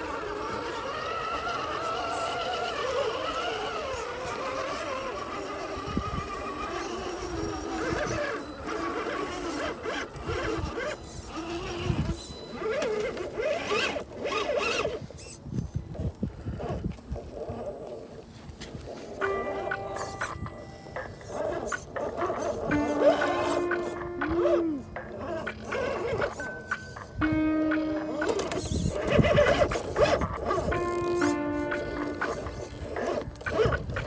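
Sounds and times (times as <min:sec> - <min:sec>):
electric motor and gears whining: 0:00.0 - 0:34.0.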